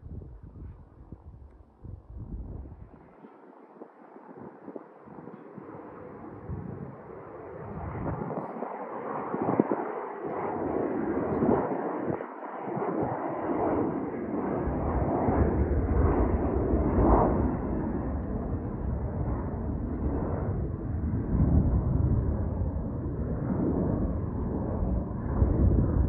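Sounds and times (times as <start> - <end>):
jet airliner engines rumbling: 0.0 - 26.0.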